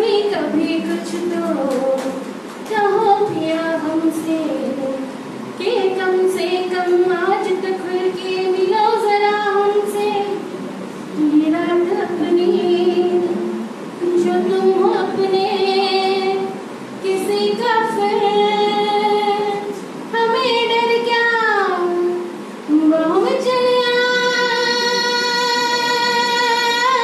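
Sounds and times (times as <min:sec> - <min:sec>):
woman singing: 0:00.0 - 0:10.5, 0:11.2 - 0:27.0.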